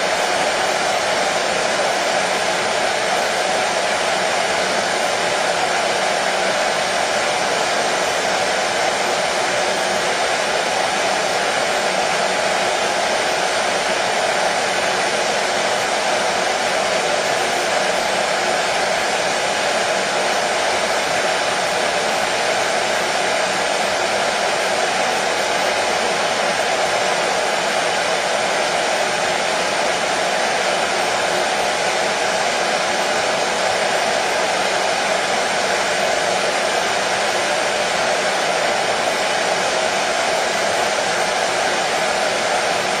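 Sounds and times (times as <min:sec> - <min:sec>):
hair dryer running: 0:00.0 - 0:43.0.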